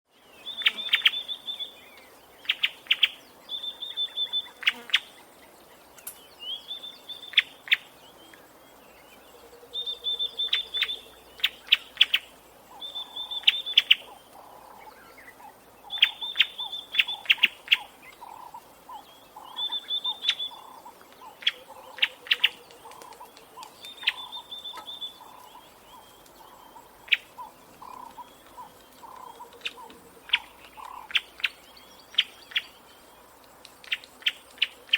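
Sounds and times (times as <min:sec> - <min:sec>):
lower pulsing bird call: 0:00.4 - 0:05.1, 0:06.4 - 0:33.2.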